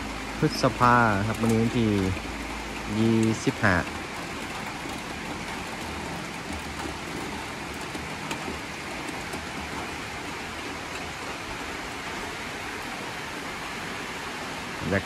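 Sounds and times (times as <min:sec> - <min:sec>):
rain on metal roof: 0:00.0 - 0:15.0.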